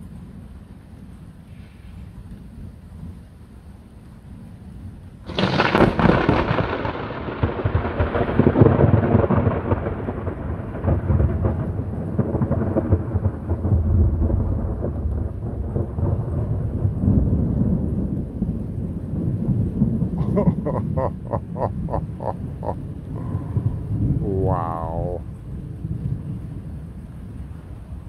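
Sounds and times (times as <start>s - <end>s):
thunder crack and rumble: 5.2s - 28.0s.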